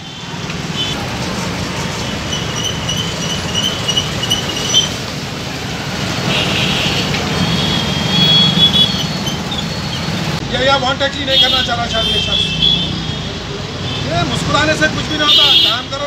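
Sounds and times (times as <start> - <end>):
motorcycle engines in traffic: 0.0 - 16.0.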